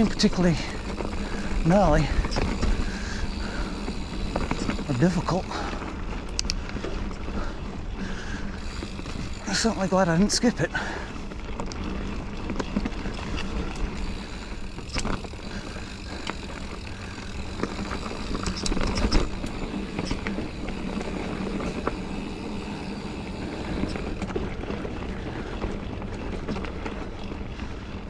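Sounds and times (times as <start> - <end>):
bike knocking and rattling: 0.0 - 28.0
bike tyres on dirt trail: 0.0 - 28.0.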